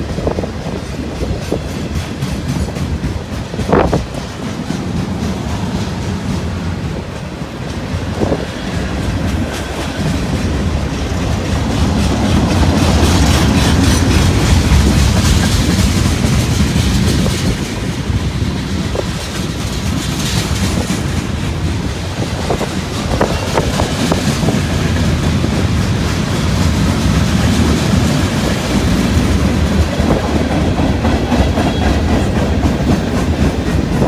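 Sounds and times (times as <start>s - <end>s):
freight train rumbling past: 0.0s - 34.0s
train wheels clicking over rail joints: 0.0s - 34.0s.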